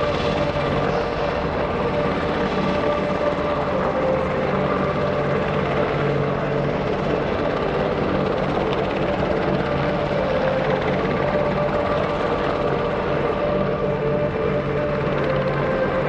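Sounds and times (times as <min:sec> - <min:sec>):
helicopter rotor noise: 0:00.0 - 0:16.0
steady turbine whine: 0:00.0 - 0:16.0.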